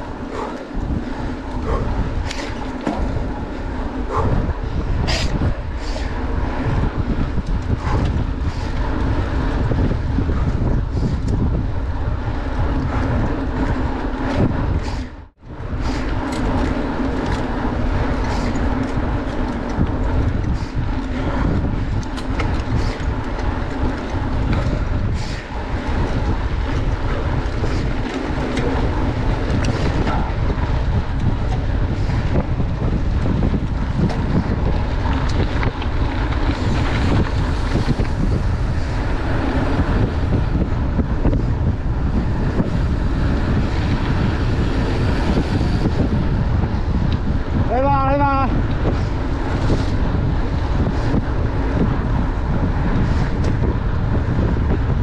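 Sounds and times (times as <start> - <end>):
bike tyres on gravel: 0.0 - 55.0
stones and bike rattling: 0.0 - 55.0
wind rumbling on microphone: 0.0 - 55.0.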